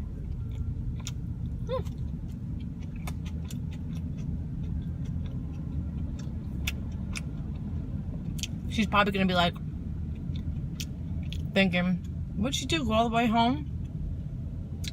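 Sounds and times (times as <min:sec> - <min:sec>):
car cabin road and engine rumble: 0:00.0 - 0:14.9.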